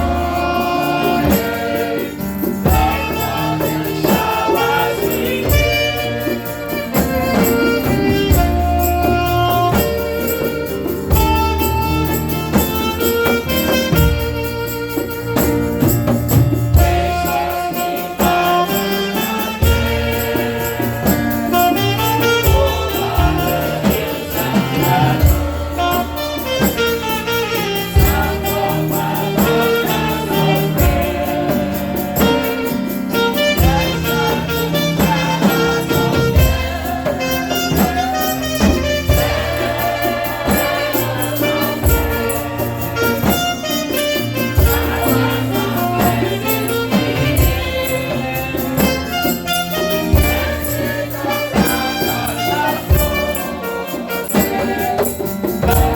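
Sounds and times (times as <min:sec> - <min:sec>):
choir singing gospel: 0:00.0 - 0:55.9
tambourine beat: 0:00.0 - 0:55.9.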